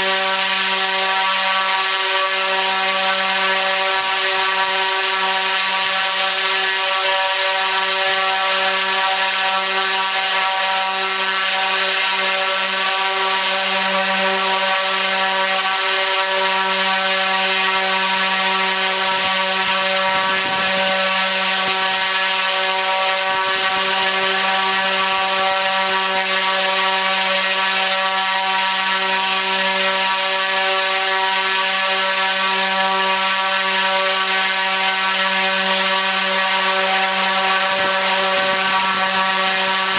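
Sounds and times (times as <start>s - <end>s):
electric motor droning: 0.0s - 39.9s
propeller air rush: 0.0s - 39.9s.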